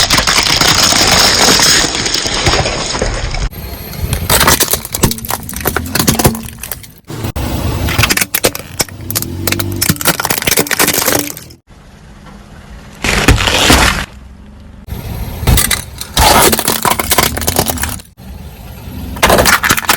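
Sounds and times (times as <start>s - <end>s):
things crunching under car tyres: 0.0s - 11.7s, 12.9s - 14.4s, 15.4s - 18.2s, 19.1s - 19.9s.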